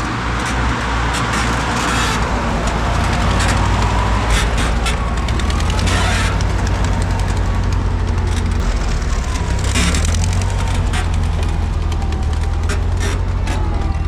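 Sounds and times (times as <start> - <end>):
vehicle engine rumbling: 0.0 - 14.0
faint clicks and rattles: 0.1 - 14.0.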